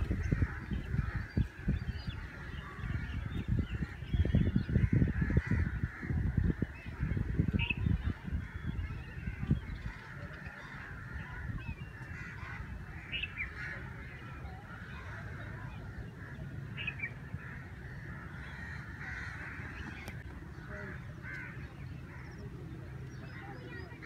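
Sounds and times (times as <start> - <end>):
birds chattering: 0.0 - 24.0.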